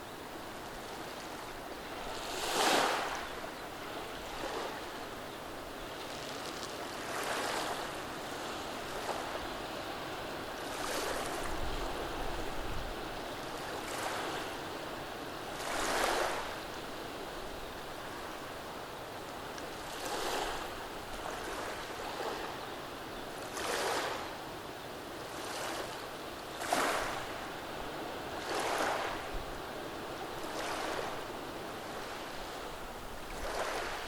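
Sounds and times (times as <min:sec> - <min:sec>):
waves washing over cobblestones: 0:00.6 - 0:22.2, 0:26.6 - 0:34.0.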